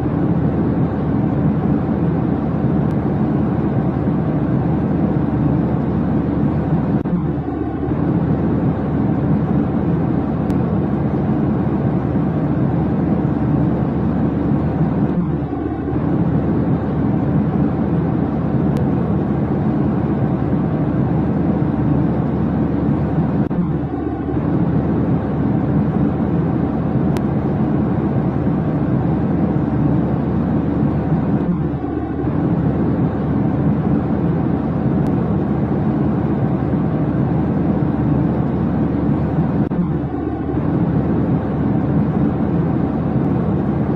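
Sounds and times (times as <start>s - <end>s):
low rumbling drone: 0.0s - 43.9s.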